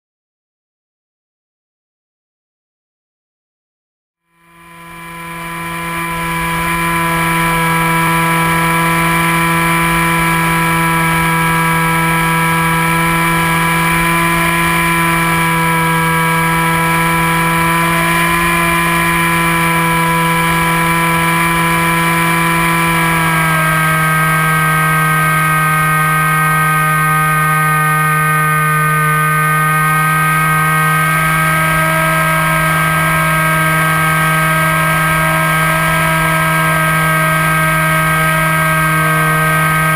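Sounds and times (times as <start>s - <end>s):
electric motor and propeller whine: 4.3s - 39.9s.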